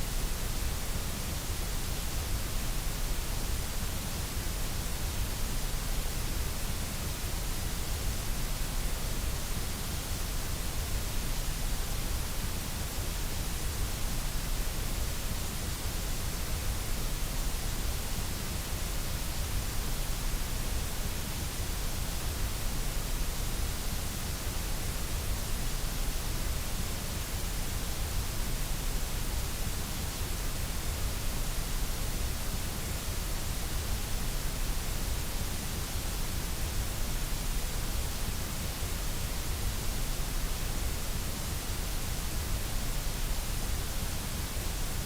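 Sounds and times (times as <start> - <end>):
white noise hiss: 0.0 - 45.0.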